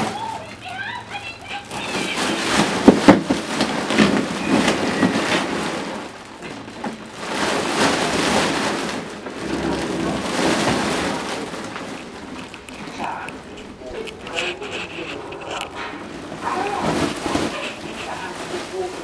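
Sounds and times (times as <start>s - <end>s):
foil balloon crinkling: 0.0s - 19.0s.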